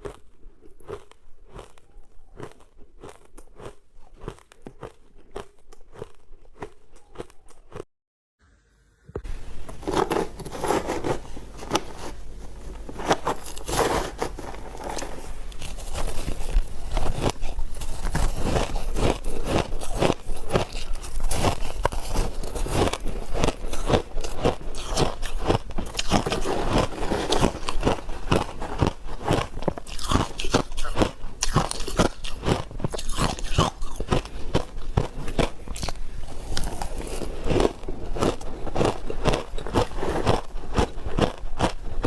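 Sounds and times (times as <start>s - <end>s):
ice being chewed: 0.0s - 7.8s, 12.8s - 42.0s.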